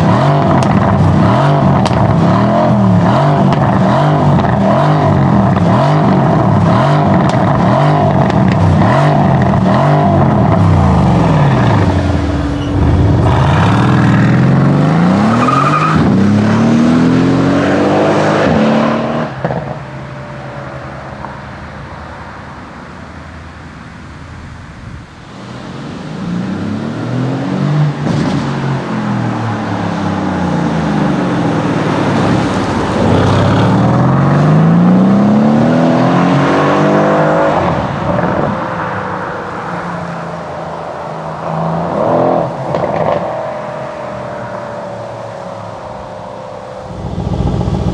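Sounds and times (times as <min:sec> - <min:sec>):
car engine accelerating hard: 0:00.0 - 0:21.4, 0:25.5 - 0:47.9.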